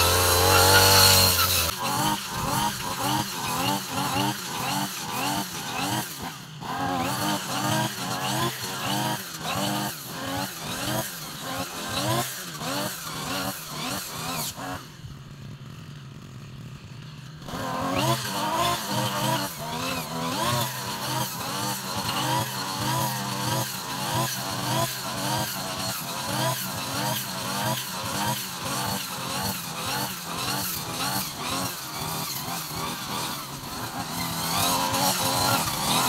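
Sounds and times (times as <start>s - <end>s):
brush cutter engine revving: 0.0s - 36.0s.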